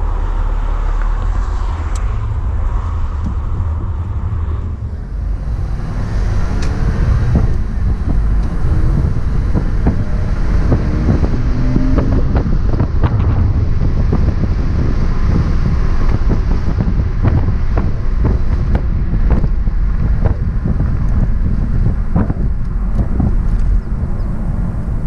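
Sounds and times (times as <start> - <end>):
car engine rumbling: 0.0 - 25.0
road noise: 0.0 - 25.0
wind buffeting microphone: 0.0 - 25.0.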